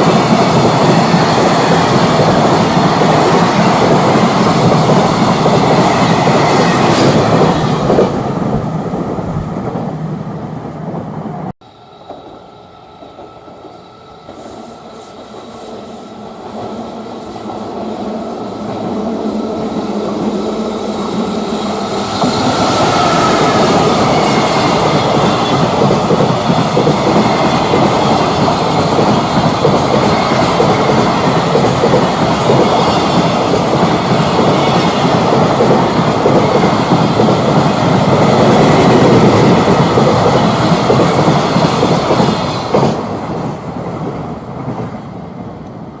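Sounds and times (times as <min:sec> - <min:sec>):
freight train passing: 0:00.0 - 0:46.0.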